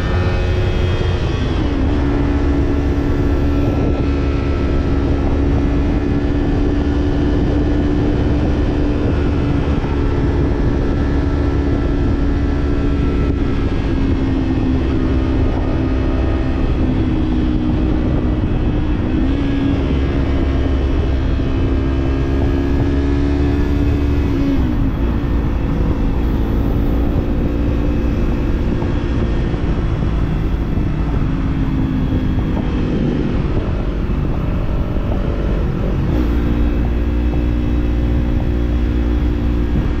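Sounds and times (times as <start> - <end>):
motorcycle engine riding: 0.0 - 40.0
wind rumble on microphone: 0.0 - 40.0.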